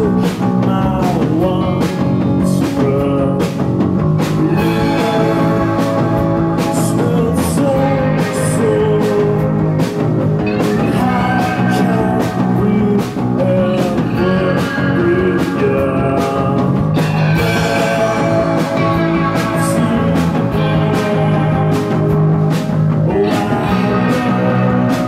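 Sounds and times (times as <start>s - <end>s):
drums: 0.0s - 25.0s
electric guitar: 0.0s - 25.0s
man singing: 0.0s - 25.0s.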